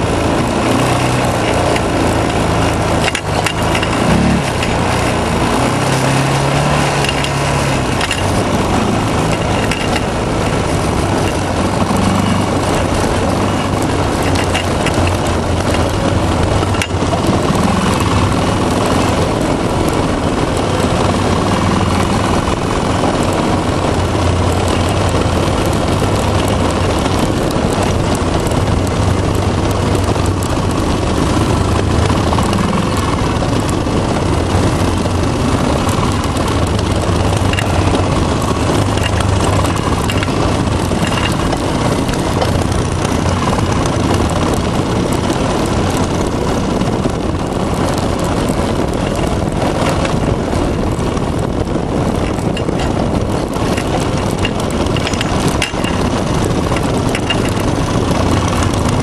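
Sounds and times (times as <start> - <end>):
quad engine droning: 0.0 - 59.0
wind rushing: 0.0 - 59.0.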